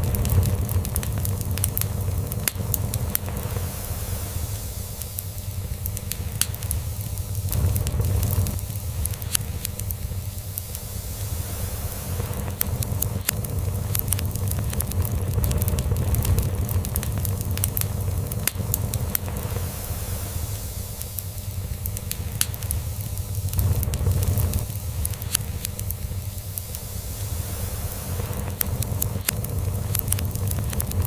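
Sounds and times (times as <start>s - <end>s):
log fire crackling and popping: 0.0s - 31.0s.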